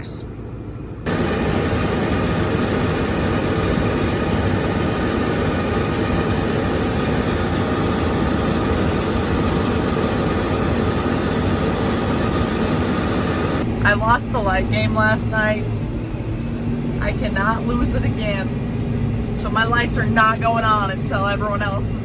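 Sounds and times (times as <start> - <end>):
faint hum tones: 0.0 - 22.0
harvester engine drone: 0.0 - 22.0.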